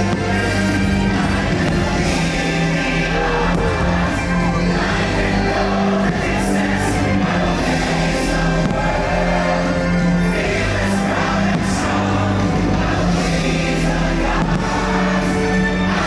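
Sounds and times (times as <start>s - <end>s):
choir singing held chords: 0.0s - 16.0s
orchestral music: 0.0s - 16.0s.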